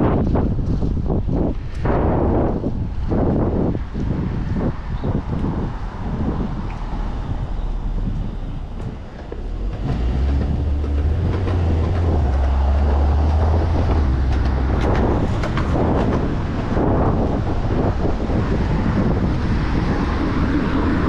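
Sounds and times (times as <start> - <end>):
wind on microphone: 0.0 - 21.0
large vehicle passing hum: 2.3 - 21.0.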